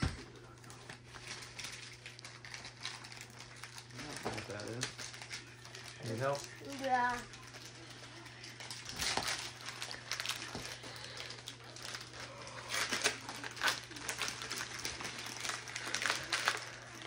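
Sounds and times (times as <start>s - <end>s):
foil wrapping paper tearing: 0.8s - 17.0s.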